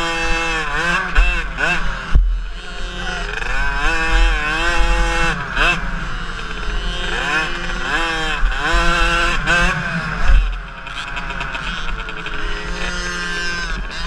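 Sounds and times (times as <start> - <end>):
two-stroke motocross bike engine: 0.0 - 14.0.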